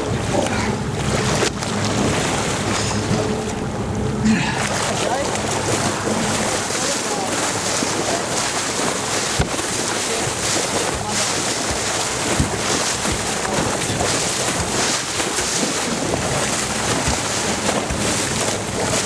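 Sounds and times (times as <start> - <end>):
sea water rushing around boat: 0.0 - 19.0.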